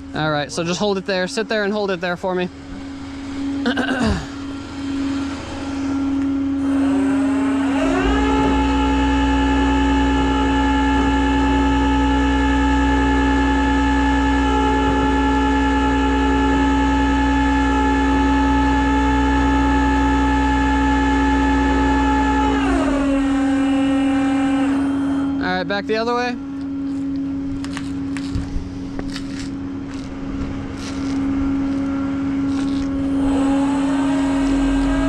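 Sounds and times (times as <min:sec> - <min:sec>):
hydraulic winch humming: 0:00.0 - 0:35.0
truck engine revving: 0:02.5 - 0:35.0.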